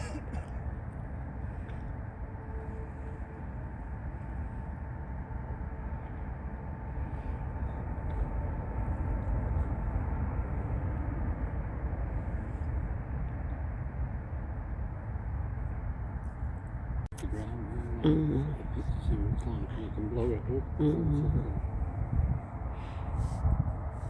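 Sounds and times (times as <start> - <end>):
jet engines rumbling with whine: 0.0 - 24.0.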